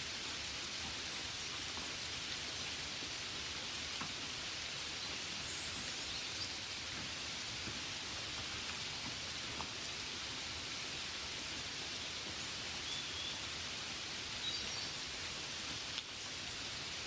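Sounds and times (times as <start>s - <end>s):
gentle rain falling: 0.0s - 17.0s.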